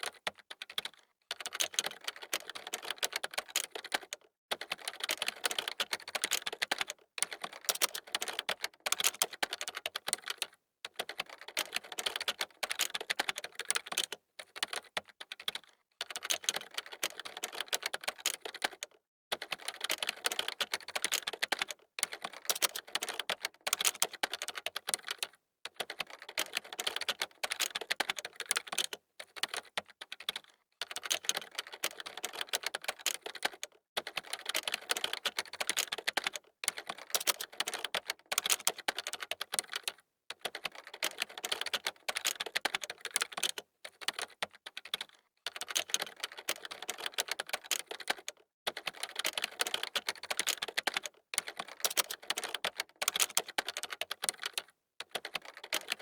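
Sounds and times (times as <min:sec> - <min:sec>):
fast typing on keyboard: 0:00.0 - 0:56.0.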